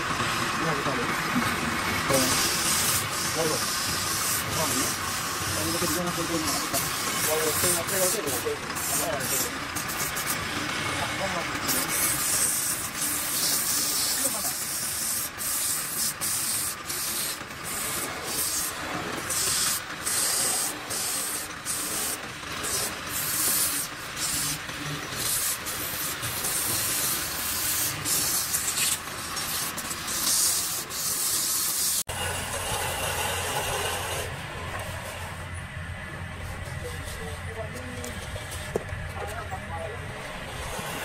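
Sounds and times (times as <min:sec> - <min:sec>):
sandpaper rasping on wood lathe: 0:00.0 - 0:35.5, 0:36.4 - 0:41.0.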